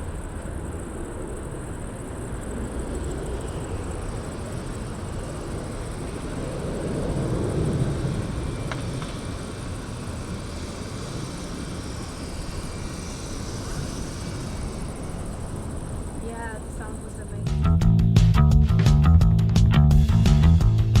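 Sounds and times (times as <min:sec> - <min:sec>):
jet engine rumble: 0:00.0 - 0:18.1.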